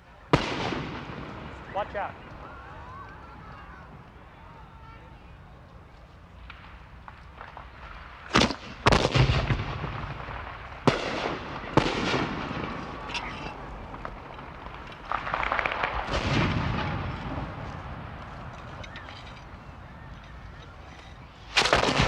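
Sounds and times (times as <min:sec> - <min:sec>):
rifle shots: 0:00.3 - 0:03.1, 0:06.5 - 0:20.8, 0:21.4 - 0:22.0.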